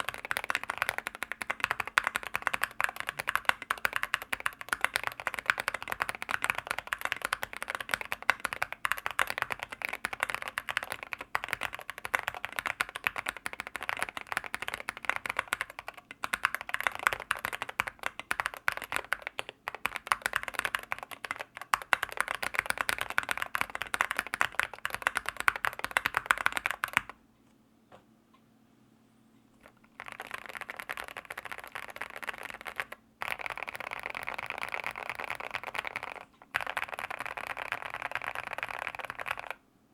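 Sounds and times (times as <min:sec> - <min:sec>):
fast typing on mechanical keyboard: 0:00.0 - 0:27.2, 0:29.6 - 0:39.6.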